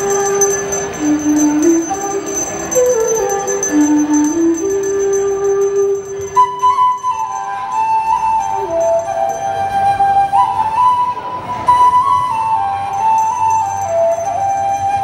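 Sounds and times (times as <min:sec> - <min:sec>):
flute playing folk melody: 0:00.0 - 0:15.0
jingling percussion: 0:00.0 - 0:15.0.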